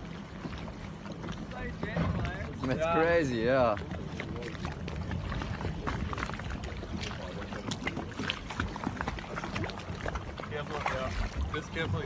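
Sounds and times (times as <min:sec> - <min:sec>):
water splashing against hull: 0:00.0 - 0:12.0.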